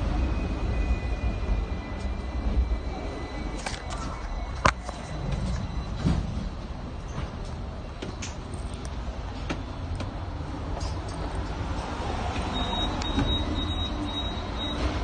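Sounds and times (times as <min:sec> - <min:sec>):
tram low rumble: 0:00.0 - 0:15.0.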